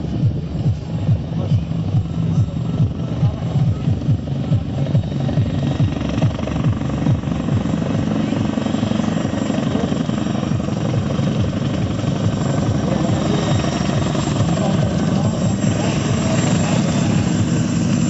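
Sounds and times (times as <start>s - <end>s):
continuous rushing noise: 0.0s - 18.0s
helicopter rotor blades beating: 0.0s - 18.0s.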